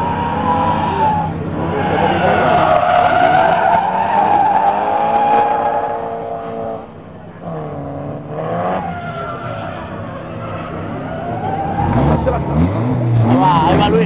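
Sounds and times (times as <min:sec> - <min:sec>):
tyres squealing: 0:00.0 - 0:06.7, 0:08.5 - 0:14.0.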